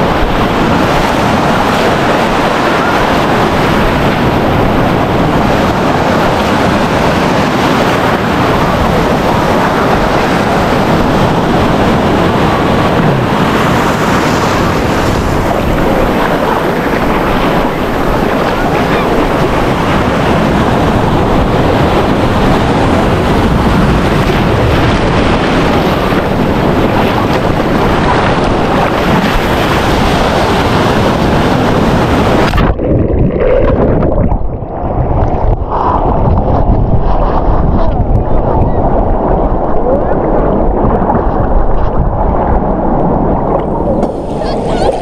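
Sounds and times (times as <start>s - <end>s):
sea surf on a beach: 0.0s - 45.0s
wind buffeting microphone: 0.0s - 45.0s.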